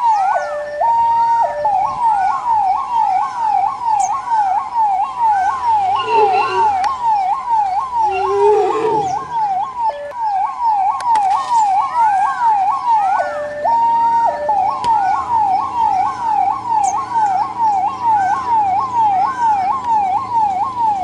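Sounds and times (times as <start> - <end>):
ambulance siren yelping: 0.0 - 21.0.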